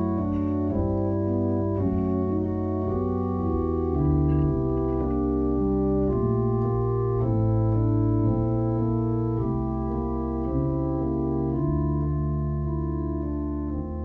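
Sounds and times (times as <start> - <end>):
organ playing slow chords: 0.0 - 14.0.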